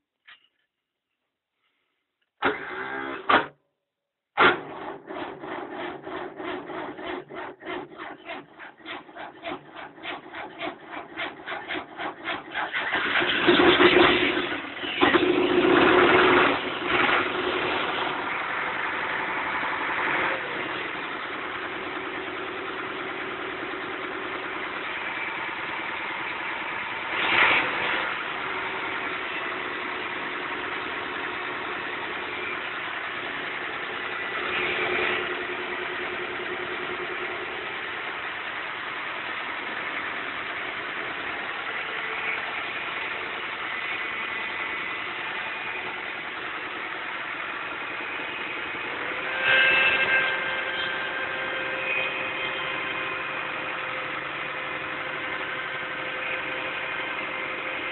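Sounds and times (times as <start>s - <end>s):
tractor diesel engine idling: 4.5s - 57.9s.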